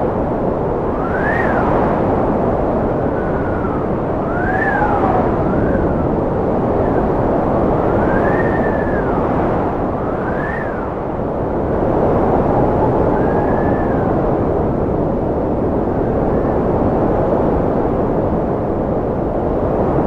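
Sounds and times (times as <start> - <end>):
strong wind whistling: 0.0 - 20.0.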